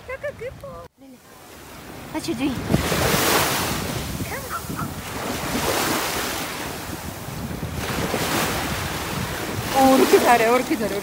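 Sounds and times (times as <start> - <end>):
small waves washing on sand: 1.1 - 11.0
wind buffeting microphone: 1.8 - 11.0.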